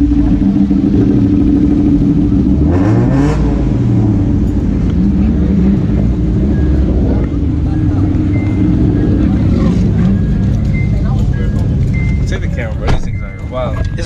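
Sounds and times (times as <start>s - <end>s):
car engine running and revving: 0.0s - 14.0s.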